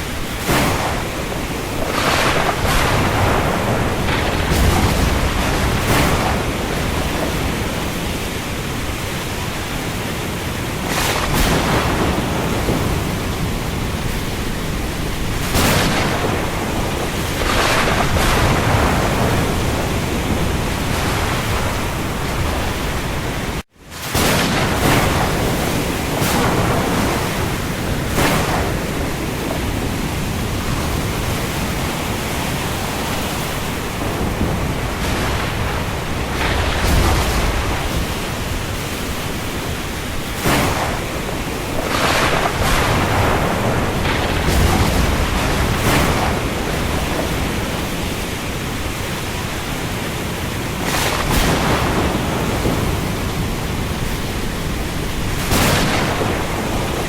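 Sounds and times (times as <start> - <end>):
heavy rain falling: 0.0 - 57.0
wind: 0.0 - 57.0.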